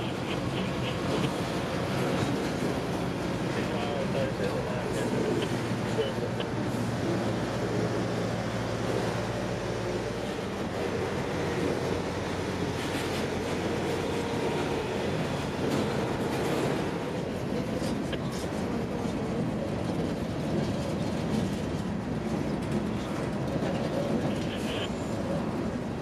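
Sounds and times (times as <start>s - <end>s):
freight train rumbling on rails: 0.0s - 26.0s.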